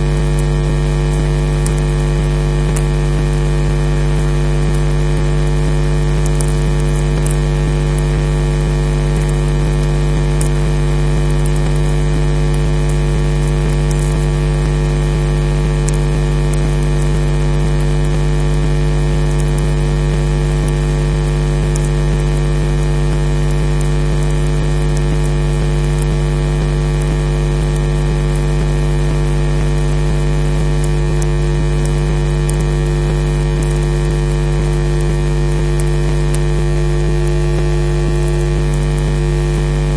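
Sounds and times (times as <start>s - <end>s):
electrical mains hum: 0.0s - 39.9s
static crackles: 0.0s - 39.9s.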